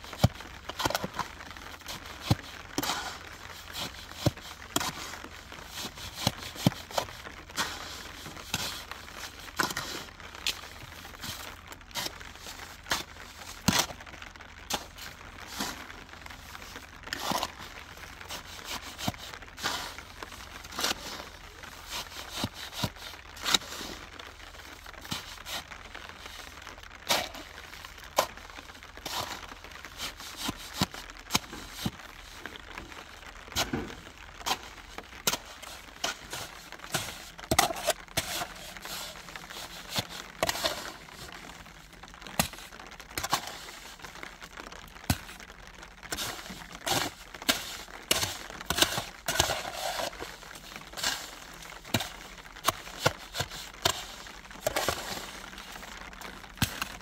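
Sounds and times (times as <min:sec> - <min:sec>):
crinkling and crackling: 0:00.0 - 0:57.0.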